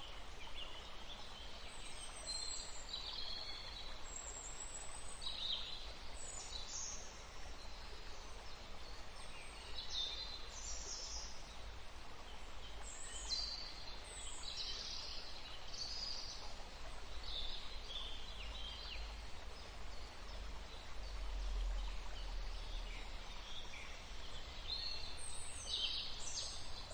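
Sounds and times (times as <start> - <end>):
songbirds chirping: 0.0 - 26.9.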